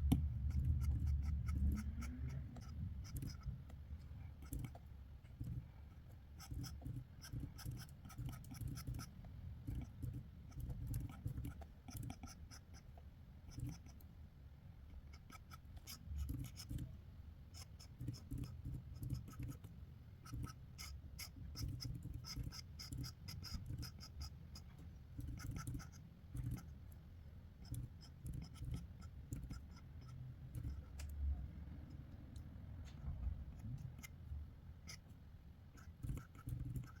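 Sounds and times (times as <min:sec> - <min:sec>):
drawing tool scratching on paper: 0:00.1 - 0:12.9, 0:13.5 - 0:14.0, 0:14.9 - 0:26.8, 0:27.6 - 0:31.1, 0:33.3 - 0:34.2, 0:34.8 - 0:37.0.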